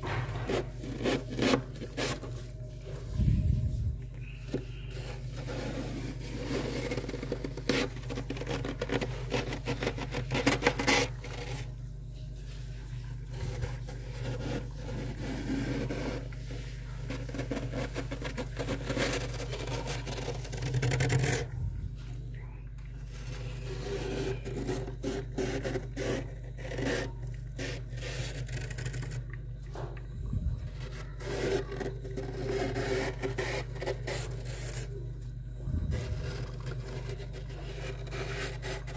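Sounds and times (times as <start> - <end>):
hand scraping frost: 0.0 - 22.1, 23.0 - 29.2, 30.4 - 38.9
steady low hum: 0.0 - 38.9.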